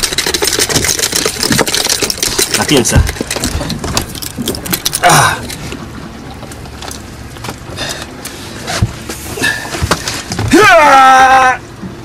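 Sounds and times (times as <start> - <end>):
boat engine humming: 0.0 - 12.0
water: 0.0 - 12.0
wind: 0.0 - 12.0.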